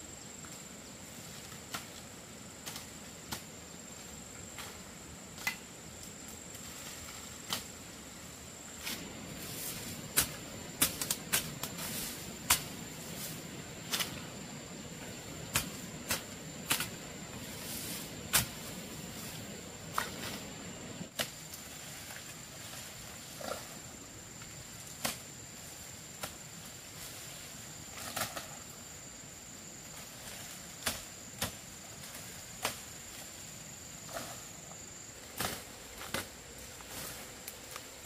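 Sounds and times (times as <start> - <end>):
low background hiss: 0.0 - 38.0.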